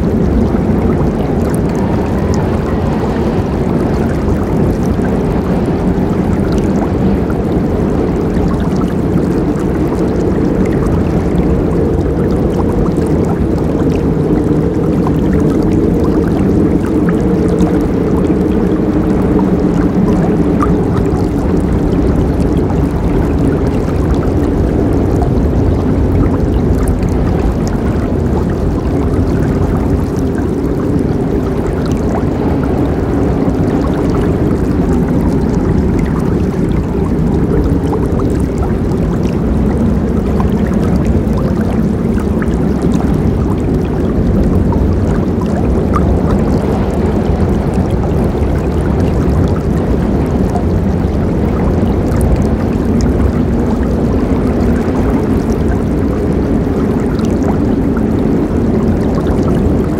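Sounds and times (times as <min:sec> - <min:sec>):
river water rushing: 0:00.0 - 0:59.9
small water splashes: 0:00.0 - 0:59.9.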